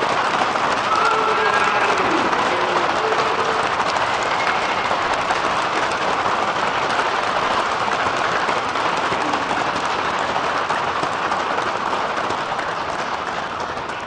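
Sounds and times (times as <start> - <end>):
crowd applause: 0.0 - 14.0.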